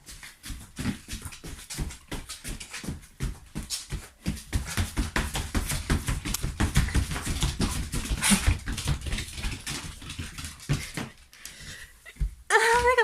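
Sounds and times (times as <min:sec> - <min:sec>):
dog paws scrabbling on floor: 0:00.0 - 0:13.0.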